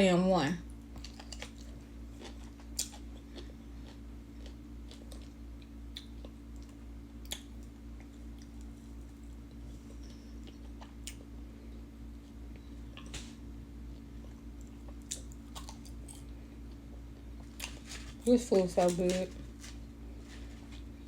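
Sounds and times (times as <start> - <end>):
low hum: 0.0 - 21.0
person chewing crunchy food: 0.8 - 11.4, 13.8 - 21.0.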